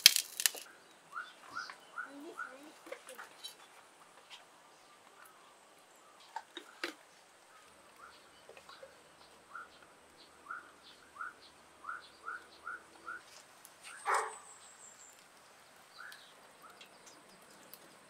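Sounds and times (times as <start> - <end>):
bird chirping: 0.0 - 3.8, 4.7 - 18.0.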